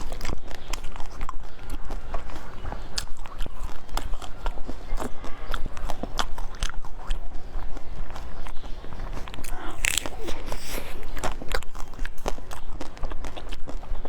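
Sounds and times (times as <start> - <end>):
person chewing cake: 0.0 - 14.0.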